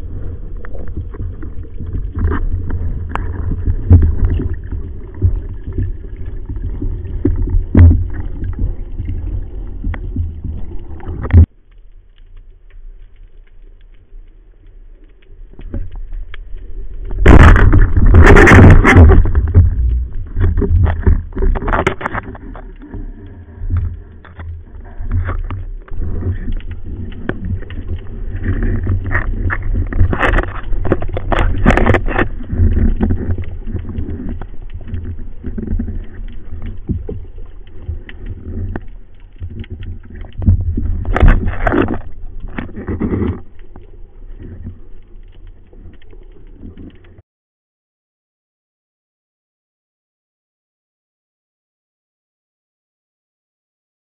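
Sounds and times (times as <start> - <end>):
underwater bubbling and knocking: 0.0 - 11.5, 15.4 - 47.2
deep underwater rumble: 0.0 - 47.2.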